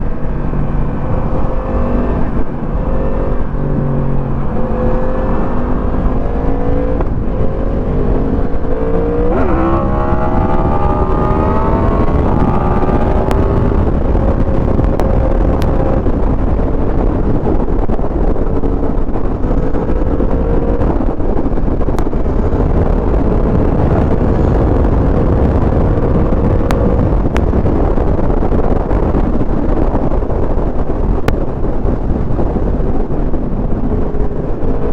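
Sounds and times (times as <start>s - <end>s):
motorcycle engine running: 0.0s - 34.9s
wind on microphone: 0.0s - 34.9s.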